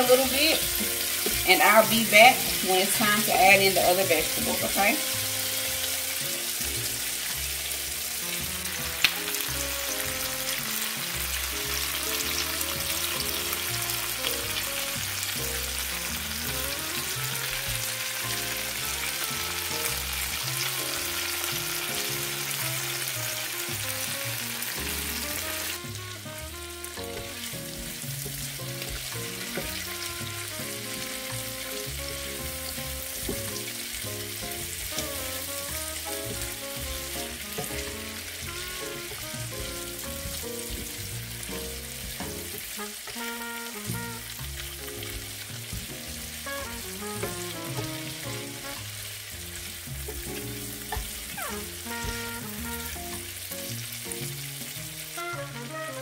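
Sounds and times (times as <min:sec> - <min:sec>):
background music: 0:00.0 - 0:56.0
vegetables sizzling in skillet: 0:00.0 - 0:56.0.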